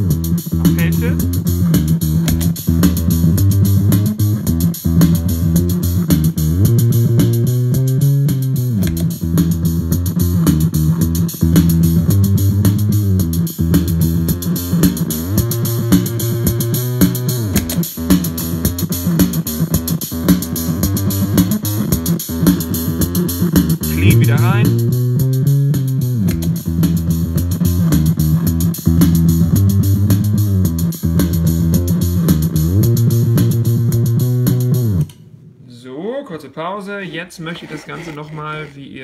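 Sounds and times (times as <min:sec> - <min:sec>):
distorted electric bass line: 0:00.0 - 0:35.1.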